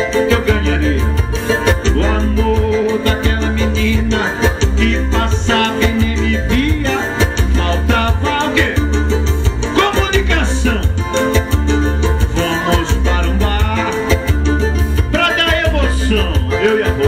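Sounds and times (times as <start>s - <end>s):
latin dance music on keyboard: 0.0s - 17.0s.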